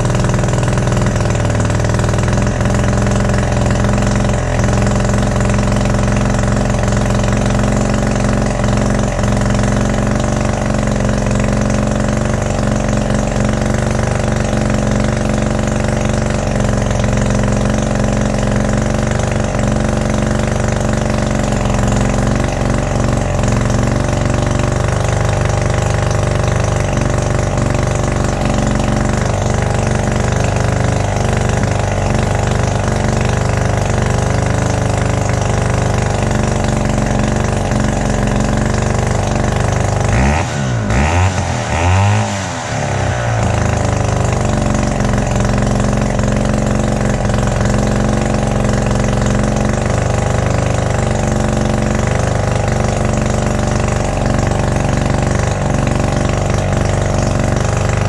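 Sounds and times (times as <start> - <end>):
engine revving: 0.0 - 58.0
two-stroke engine idling: 0.0 - 58.0.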